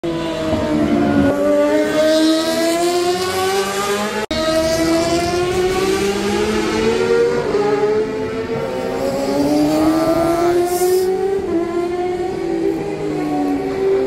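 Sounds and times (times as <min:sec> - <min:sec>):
motorcycle engine accelerating: 0:00.3 - 0:13.3.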